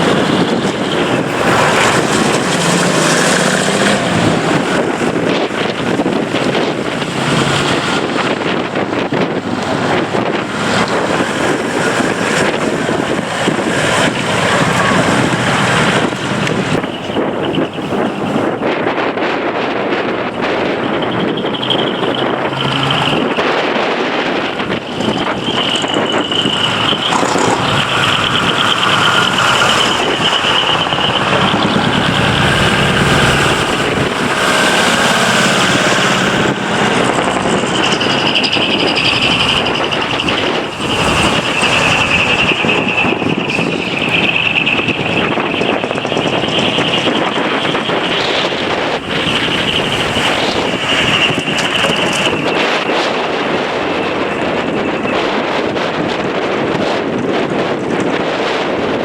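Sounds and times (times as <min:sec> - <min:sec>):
truck diesel engines pulling away: 0:00.0 - 0:59.0.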